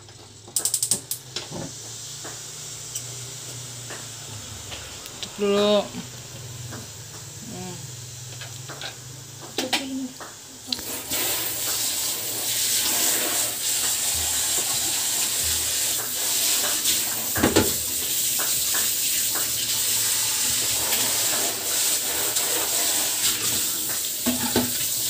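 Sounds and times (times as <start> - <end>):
water boiling with hissing steam: 0.0 - 25.0.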